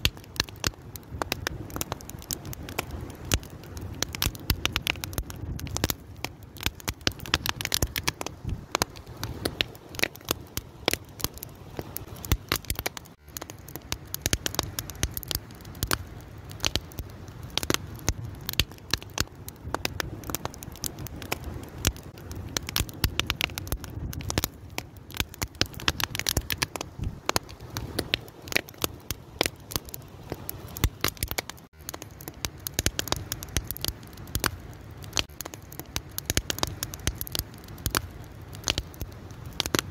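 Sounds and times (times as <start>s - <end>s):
fire crackling and popping: 0.0s - 39.9s
flames rushing: 0.0s - 39.9s.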